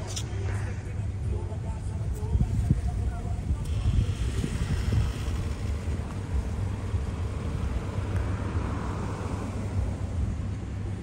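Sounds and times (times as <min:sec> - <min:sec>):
low rumble of cars: 0:00.0 - 0:11.0.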